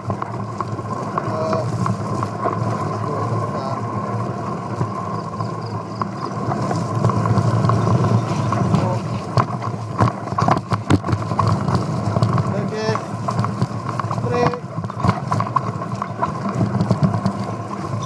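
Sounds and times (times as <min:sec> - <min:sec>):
bike knocks and clatters: 0:00.0 - 0:18.0
bike rattling: 0:00.0 - 0:18.0.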